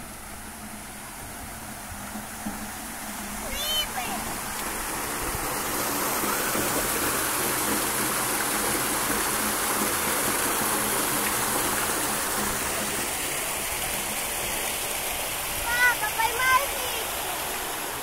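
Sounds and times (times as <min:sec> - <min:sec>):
water spray splashing on pond: 0:00.0 - 0:18.0.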